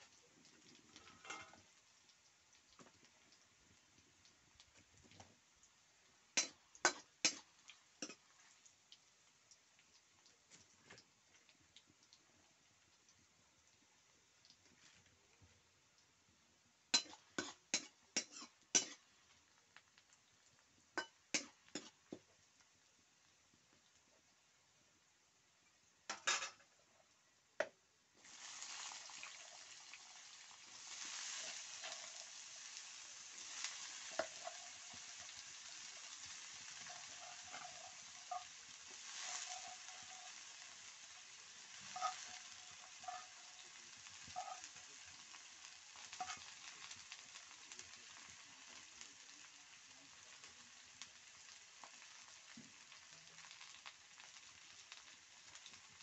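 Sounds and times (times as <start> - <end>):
potatoes sizzling in hot oil: 0.0 - 27.4, 28.0 - 56.0.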